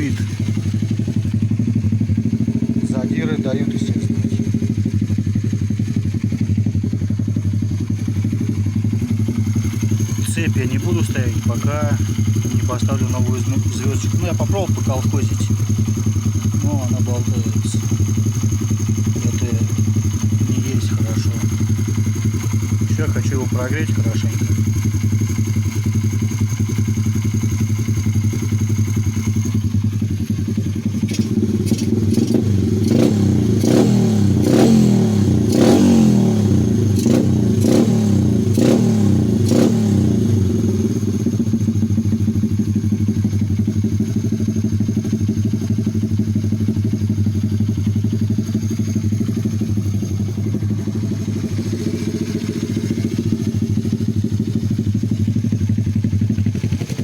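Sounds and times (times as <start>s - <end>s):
motorbike engine revving and idling: 0.0s - 57.0s.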